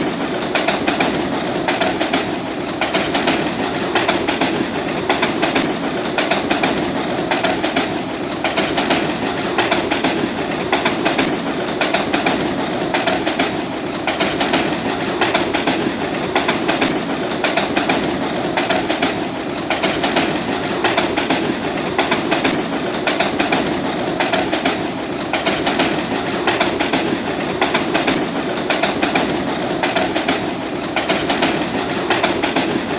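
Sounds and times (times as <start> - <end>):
train wheels clicking over rail joints: 0.0 - 32.9.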